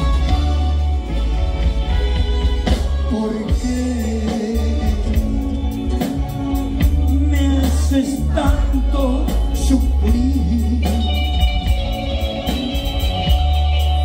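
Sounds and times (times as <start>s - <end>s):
heavy bass line: 0.0s - 14.0s
live band playing a ballad: 0.0s - 14.0s.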